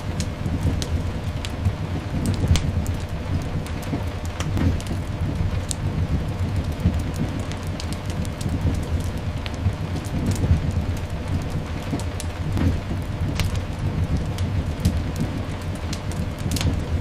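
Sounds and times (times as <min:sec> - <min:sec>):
continuous low rumble: 0:00.0 - 0:17.0
fireplace crackling and popping: 0:00.0 - 0:17.0
rain hiss: 0:00.0 - 0:17.0.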